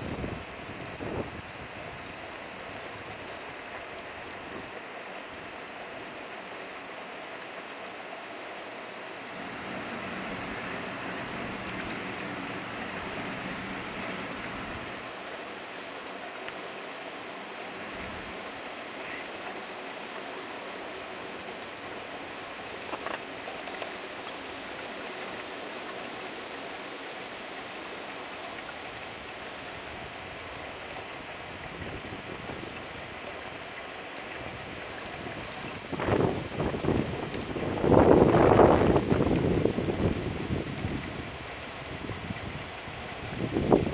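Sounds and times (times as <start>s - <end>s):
hail pattering: 0.0s - 43.9s.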